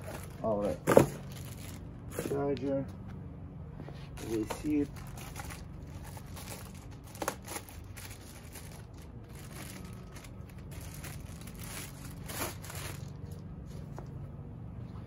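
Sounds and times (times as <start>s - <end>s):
packaging crinkling and rustling: 0.0s - 2.4s, 4.1s - 14.0s.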